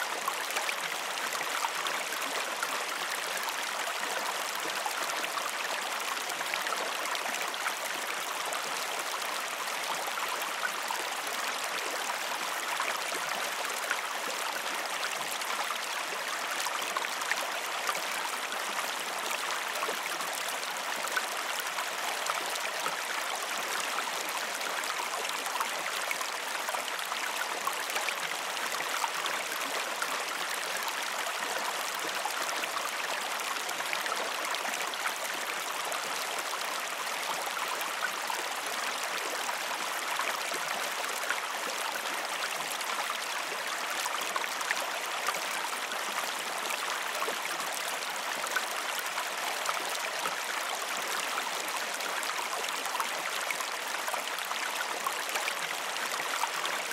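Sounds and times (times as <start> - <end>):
creek water flowing: 0.0 - 56.9.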